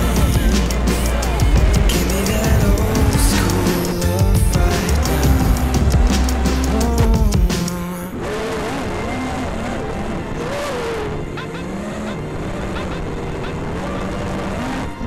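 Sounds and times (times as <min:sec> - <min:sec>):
music: 0:00.0 - 0:08.2, 0:08.9 - 0:15.0
quadcopter motors whining: 0:00.0 - 0:15.0.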